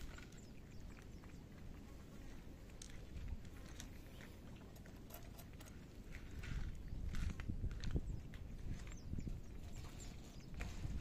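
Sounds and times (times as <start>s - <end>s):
cats lapping and eating: 0.0s - 11.0s.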